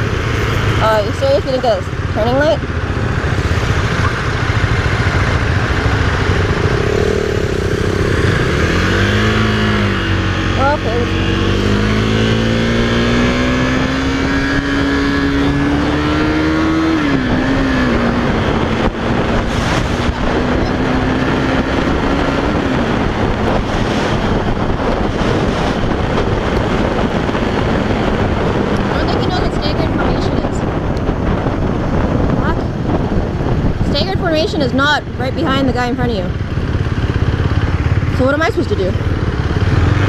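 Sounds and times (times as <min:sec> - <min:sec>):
motorcycle engine accelerating: 0:00.0 - 0:40.0
wind rushing over microphone: 0:00.0 - 0:40.0.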